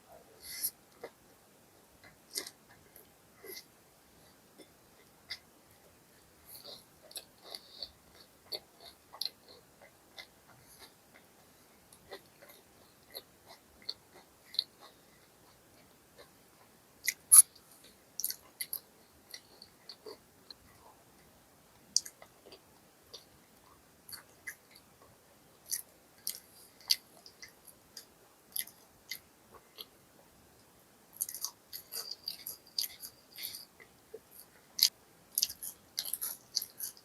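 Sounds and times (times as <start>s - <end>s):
chewing with crunches: 2.0s - 5.5s, 6.5s - 21.0s, 21.9s - 37.0s.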